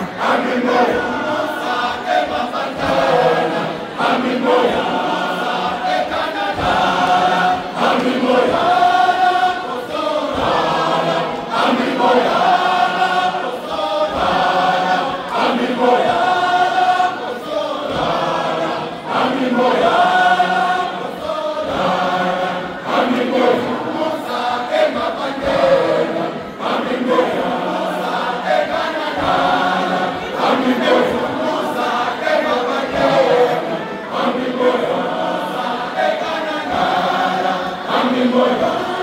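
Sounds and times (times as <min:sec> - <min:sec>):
men's choir singing a hymn: 0:00.0 - 0:39.0.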